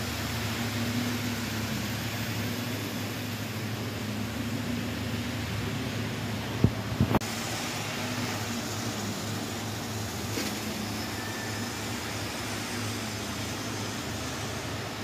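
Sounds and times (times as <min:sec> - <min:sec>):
model train motor hum: 0:00.0 - 0:06.6, 0:07.3 - 0:15.0.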